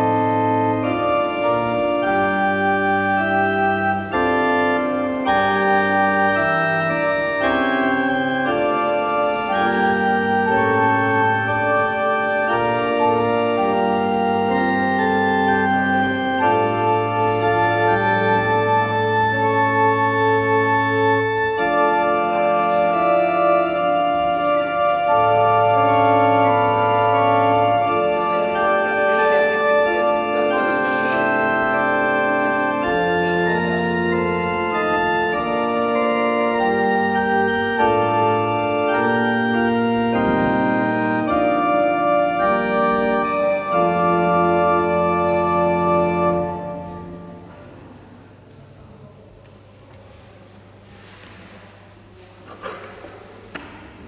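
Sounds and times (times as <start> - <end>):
organ playing slow chords: 0.0 - 49.2.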